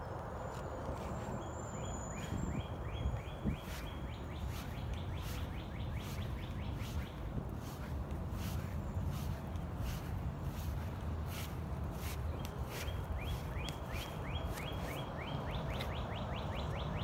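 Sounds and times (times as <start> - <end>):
low outdoor rumble: 0.0 - 17.0
songbird singing: 0.0 - 17.0.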